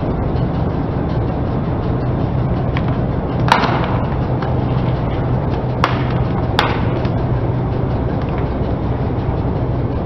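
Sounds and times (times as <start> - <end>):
low car hum: 0.0 - 10.0.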